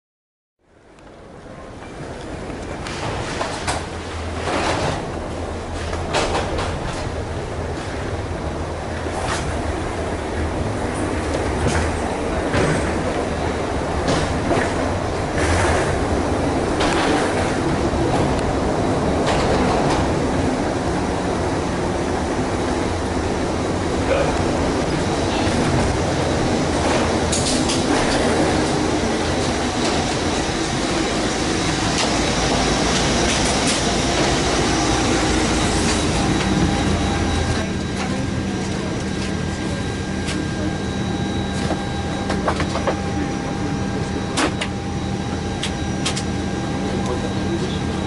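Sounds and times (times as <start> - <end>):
aircraft systems hum: 0.6 - 48.0
rushing machinery and air noise: 0.7 - 48.0.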